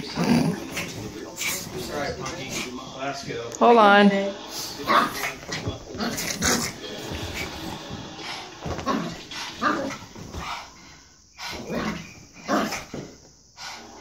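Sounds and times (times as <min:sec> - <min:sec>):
dogs play-fighting: 0:00.0 - 0:03.4, 0:04.4 - 0:14.0.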